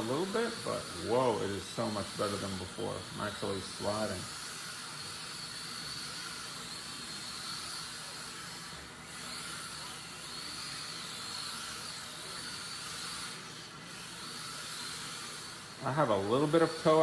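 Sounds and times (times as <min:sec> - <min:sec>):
rc car electric motor whining: 0:00.0 - 0:17.0.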